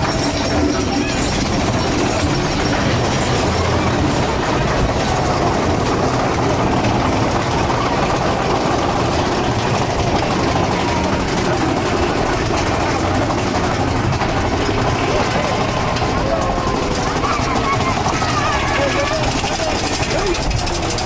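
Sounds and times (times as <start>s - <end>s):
roller coaster rumbling and rattling: 0.0s - 21.0s.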